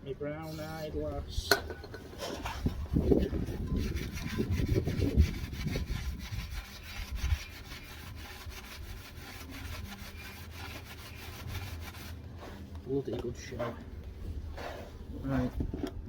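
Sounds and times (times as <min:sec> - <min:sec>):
rubbing and scraping: 0:00.4 - 0:16.0.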